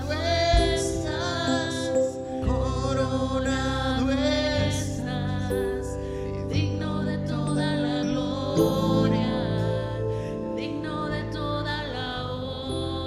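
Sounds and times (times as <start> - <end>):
sustained keyboard chords: 0.0 - 13.0
woman singing into microphone: 0.0 - 13.0.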